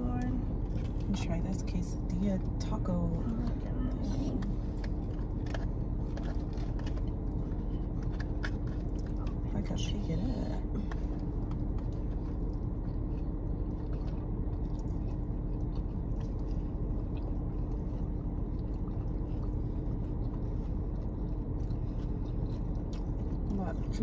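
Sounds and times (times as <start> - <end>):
car interior drone: 0.0 - 24.0
person chewing food: 3.3 - 9.6, 10.4 - 23.6.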